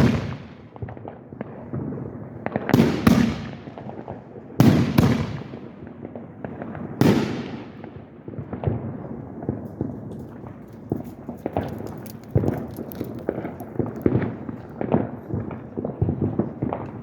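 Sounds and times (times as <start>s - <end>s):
fireworks booming: 0.0s - 17.0s
fireworks popping and crackling: 0.0s - 17.0s.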